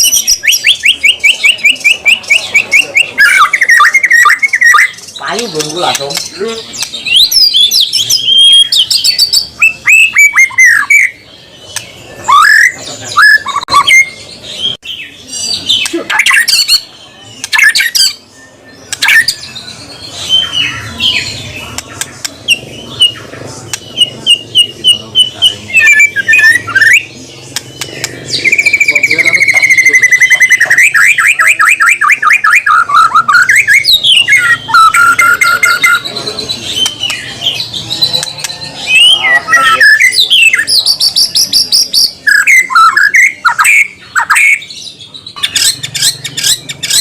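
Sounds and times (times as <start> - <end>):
songbird singing whistled notes: 0.0 - 47.0.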